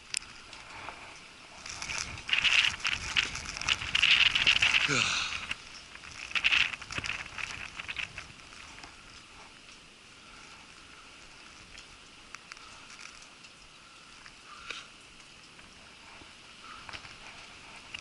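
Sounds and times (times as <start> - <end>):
rain pattering faintly: 0.0 - 18.0.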